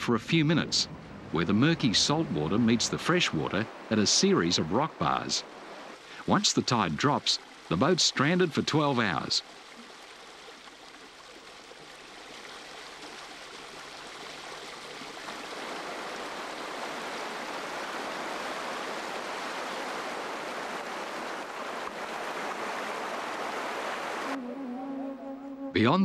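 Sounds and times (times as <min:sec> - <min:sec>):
river water rushing over rocks: 0:00.9 - 0:24.4.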